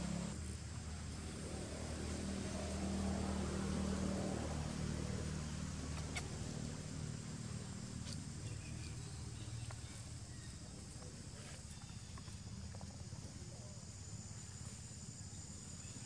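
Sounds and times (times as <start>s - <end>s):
low motor hum: 0.0s - 13.4s.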